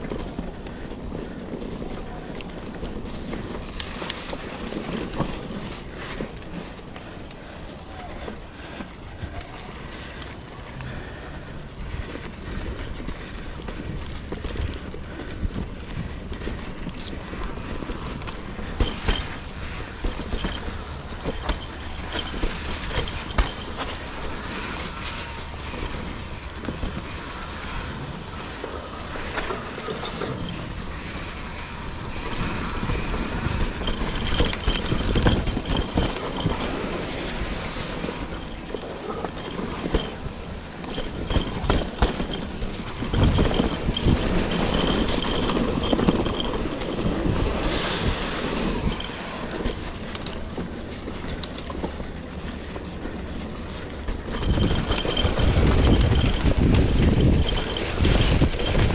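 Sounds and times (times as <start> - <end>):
bike rattling and knocking: 0.0 - 58.9
bike tyres rumbling on dirt: 0.0 - 58.9.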